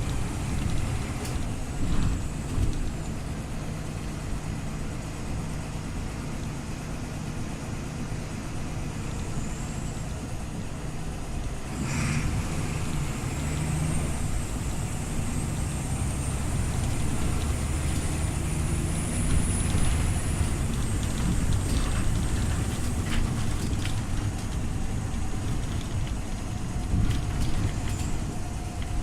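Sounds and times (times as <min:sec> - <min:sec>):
bus engine running: 0:00.0 - 0:29.0.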